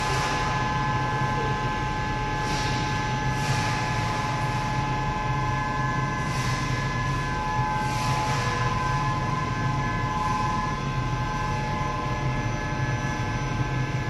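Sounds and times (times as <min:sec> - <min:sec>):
furnace high whine: 0:00.0 - 0:14.0.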